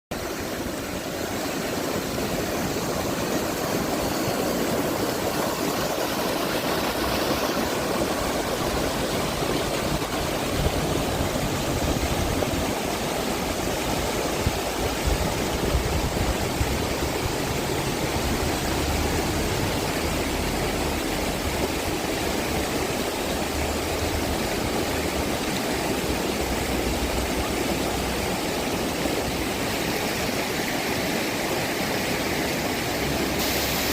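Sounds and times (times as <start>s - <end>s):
river water rushing: 0.1s - 33.9s.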